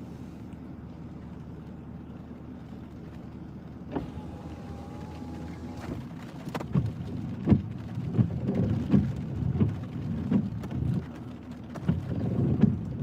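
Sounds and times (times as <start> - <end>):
heavy rain drumming on vehicle: 0.8 - 13.0.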